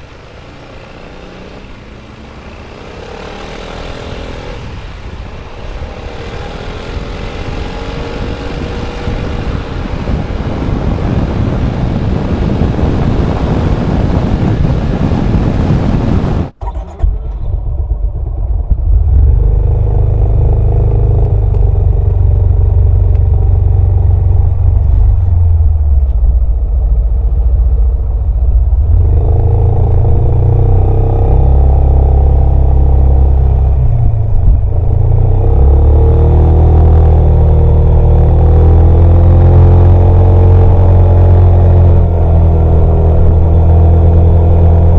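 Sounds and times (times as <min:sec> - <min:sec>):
scooter engine droning: 0:00.0 - 0:44.9.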